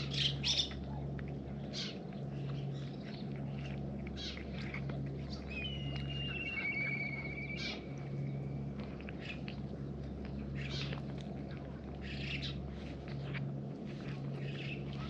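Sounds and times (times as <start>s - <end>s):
cats chewing and smacking: 0.0s - 15.0s
steady low hum: 0.0s - 15.0s.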